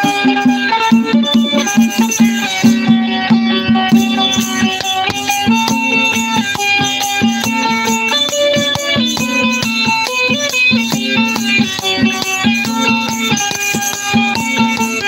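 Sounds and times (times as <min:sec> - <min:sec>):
plucked string instrument: 0:00.0 - 0:15.0
sharp clicks keeping the beat: 0:00.0 - 0:15.0.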